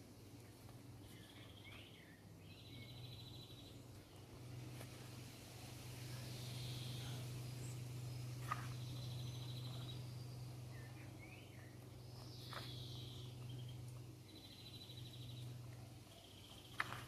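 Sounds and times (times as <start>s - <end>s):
faint birdsong: 0.0s - 17.0s
steady low hum: 0.0s - 17.0s.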